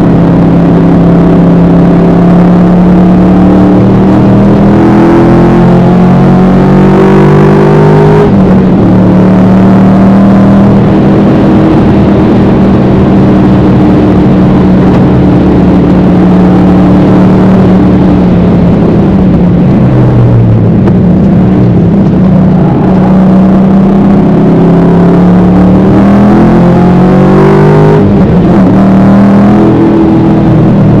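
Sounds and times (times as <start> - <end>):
car engine revving through gears: 0.0 - 31.0.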